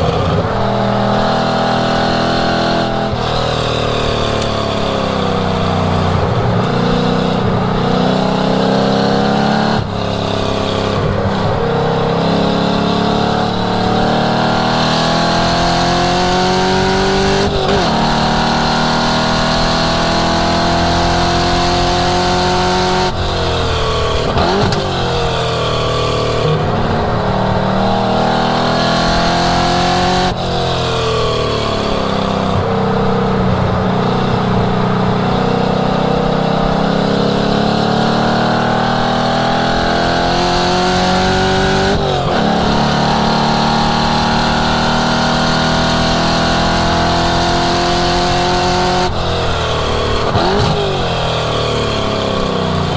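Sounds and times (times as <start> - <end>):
car engine revving hard: 0.0 - 52.9.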